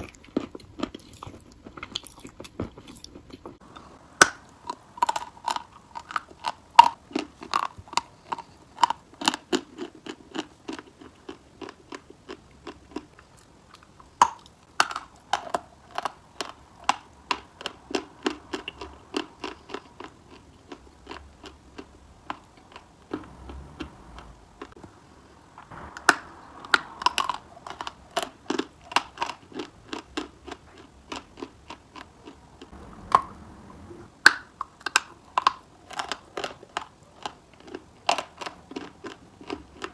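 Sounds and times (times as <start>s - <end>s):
crunching and chewing chalk: 0.0s - 33.5s, 34.1s - 39.9s.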